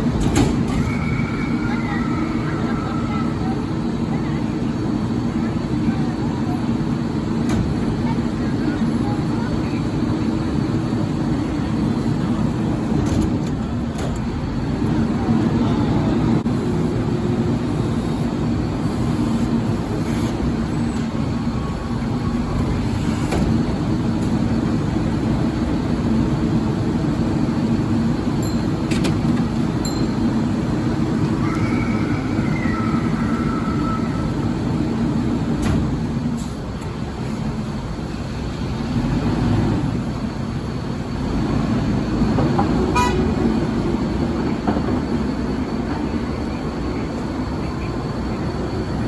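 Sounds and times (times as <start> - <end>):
garbage truck engine running: 0.0 - 49.0.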